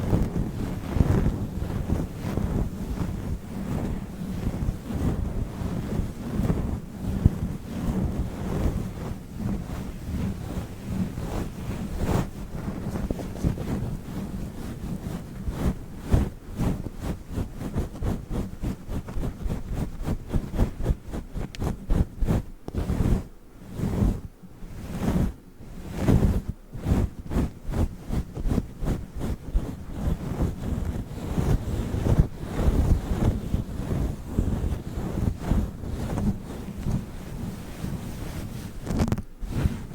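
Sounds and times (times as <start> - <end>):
microphone windscreen rustling: 0.0 - 39.9.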